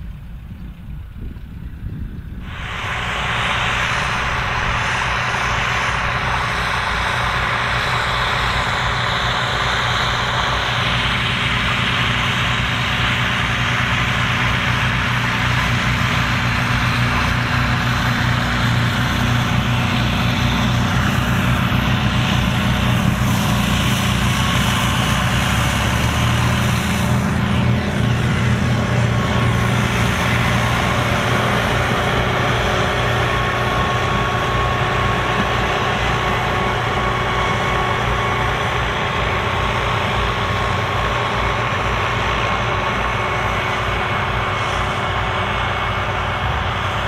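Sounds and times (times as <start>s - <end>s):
tractor engines droning: 0.0s - 47.0s.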